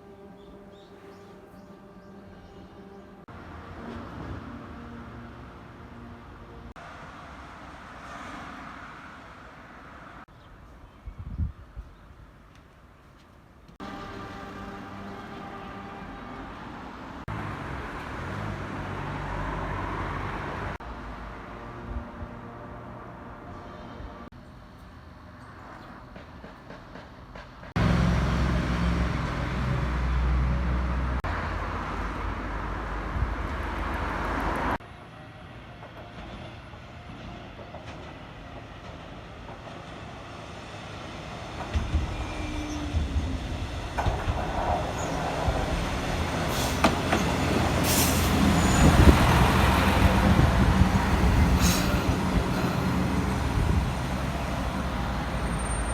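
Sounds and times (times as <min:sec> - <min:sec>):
diesel railcar running: 0:00.0 - 0:08.7, 0:13.8 - 0:55.9.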